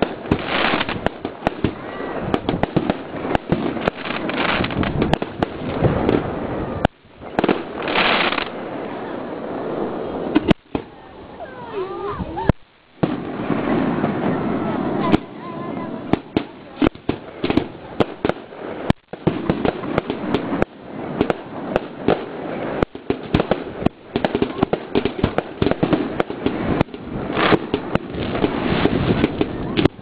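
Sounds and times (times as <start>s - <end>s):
dense fireworks noise: 0.0s - 30.0s.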